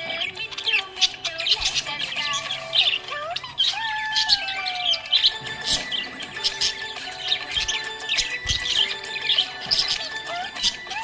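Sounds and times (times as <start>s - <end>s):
background music with held notes: 0.0s - 11.0s
parrots chirping and squawking: 0.0s - 11.0s.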